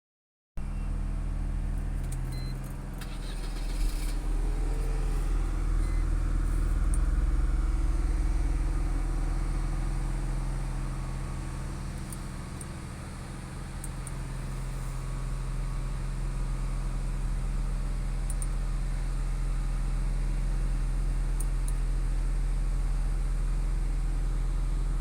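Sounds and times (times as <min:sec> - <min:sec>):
car engine idling: 0:00.7 - 0:25.0.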